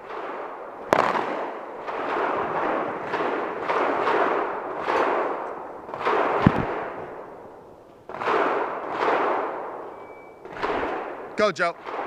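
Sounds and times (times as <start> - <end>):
pistol shots with echo: 0.0 - 12.0.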